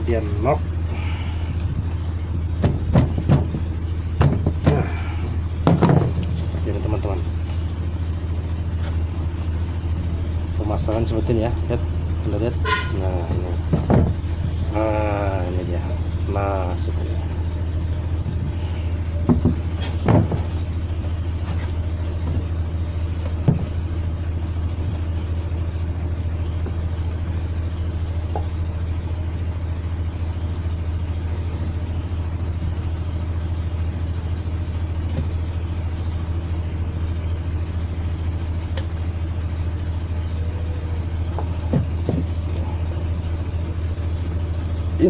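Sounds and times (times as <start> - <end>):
low mechanical hum: 0.0 - 45.0.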